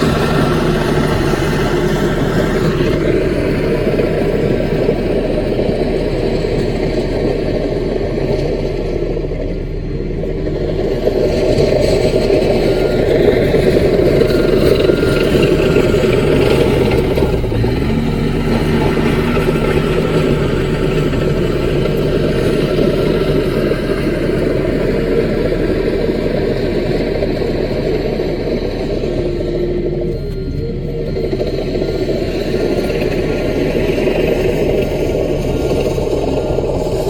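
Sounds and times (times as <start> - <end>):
bulldozer engine running: 0.0 - 37.0.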